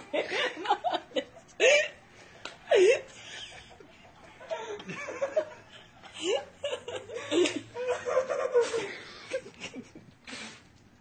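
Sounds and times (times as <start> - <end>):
people laughing and chuckling: 0.0 - 10.3.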